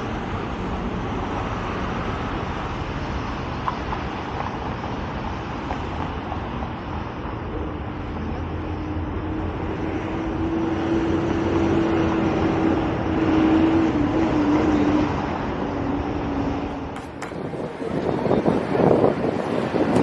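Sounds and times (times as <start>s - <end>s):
vehicle droning hum: 0.0s - 20.0s.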